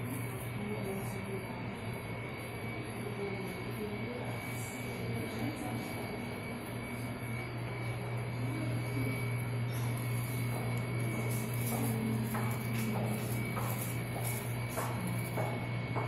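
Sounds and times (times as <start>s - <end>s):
distant voices: 0.0s - 16.0s
low room hum: 0.0s - 16.0s.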